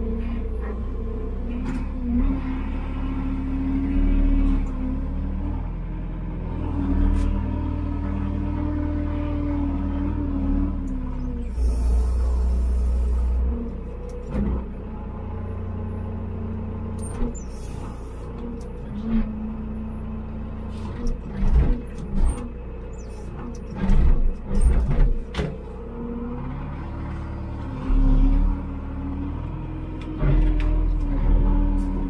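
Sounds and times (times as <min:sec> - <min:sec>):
farm vehicle engine running: 0:00.0 - 0:32.0.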